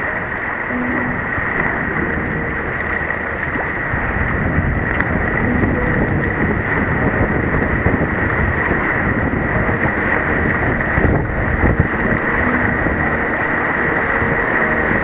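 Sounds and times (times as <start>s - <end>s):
choppy sea washing: 0.0s - 15.0s
wind buffeting microphone: 0.0s - 15.0s.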